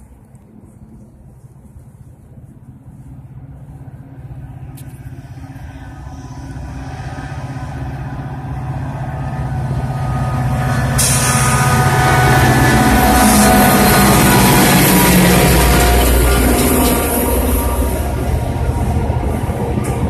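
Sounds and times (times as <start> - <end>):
diesel locomotive engine drone: 0.0 - 20.0
wheel and rail rushing noise: 0.0 - 20.0.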